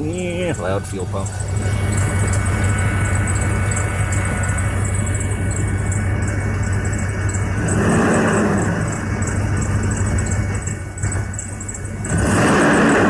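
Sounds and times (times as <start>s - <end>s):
car engine idling: 0.0s - 13.0s
engine cooling fan whooshing: 0.0s - 13.0s.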